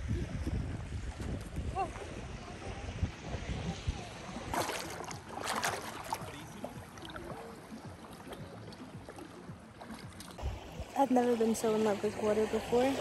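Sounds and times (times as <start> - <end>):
seawater sloshing: 0.3 - 13.0
loud water splashes: 1.0 - 13.0.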